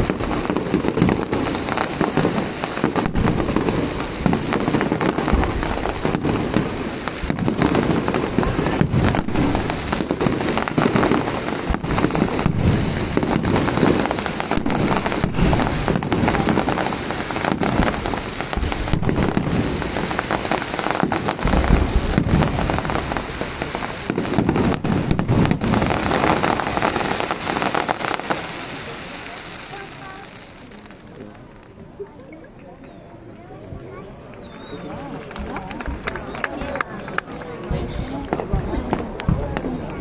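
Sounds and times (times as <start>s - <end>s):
fireworks booms: 0.0s - 31.8s, 34.9s - 40.0s
fireworks crackling and popping: 0.0s - 40.0s.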